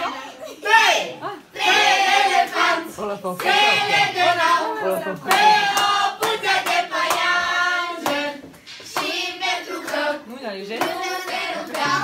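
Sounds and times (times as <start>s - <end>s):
group of people singing: 1.5s - 12.0s
people clapping along: 2.3s - 12.0s.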